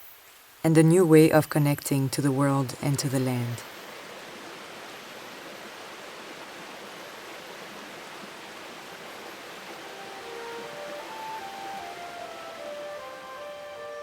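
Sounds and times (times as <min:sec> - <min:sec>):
flowing water rushing: 0:02.4 - 0:14.0.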